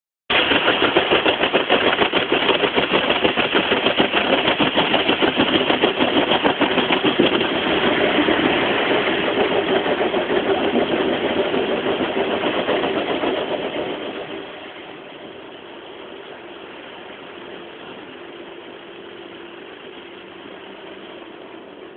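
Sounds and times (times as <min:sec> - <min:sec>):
car wash machine from inside car: 0:00.3 - 0:21.9.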